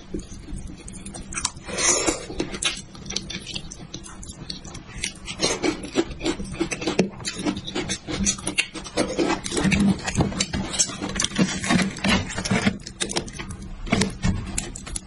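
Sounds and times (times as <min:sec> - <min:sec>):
wet chewing and mouth smacking: 0:00.0 - 0:15.0.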